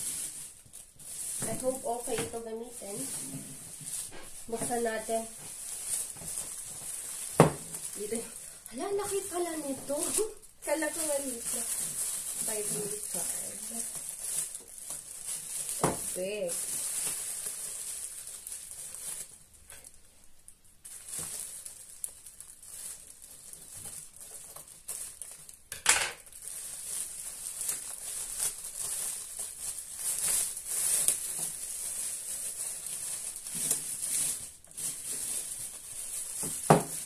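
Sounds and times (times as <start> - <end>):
plastic wrapping crinkling: 0.0 - 37.0.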